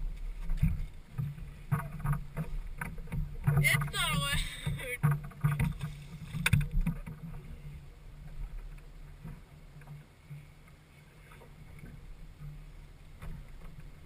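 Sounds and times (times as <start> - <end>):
boat engine rumble: 0.0 - 14.0.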